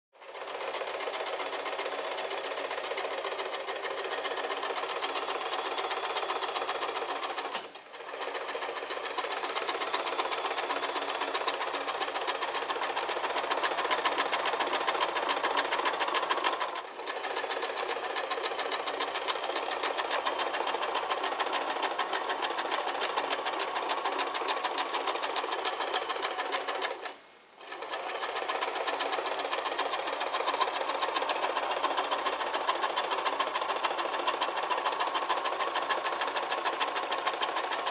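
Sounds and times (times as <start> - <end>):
sewing machine stitching: 0.2 - 37.9.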